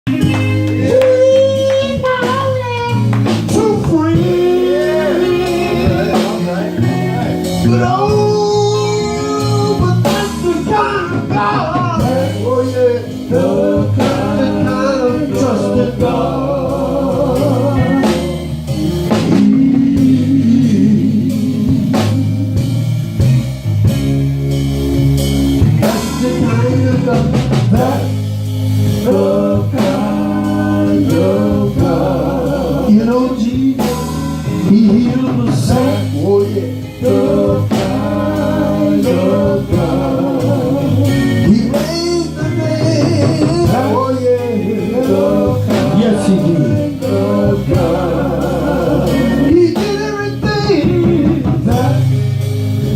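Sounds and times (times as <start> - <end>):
band with guitar and drums: 0.0 - 52.9
voices singing gospel: 0.1 - 52.9.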